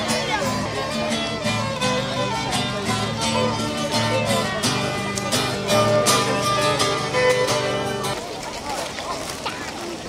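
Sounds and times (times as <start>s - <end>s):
fiddles playing melody: 0.0s - 8.2s
strummed acoustic guitar: 0.0s - 8.2s.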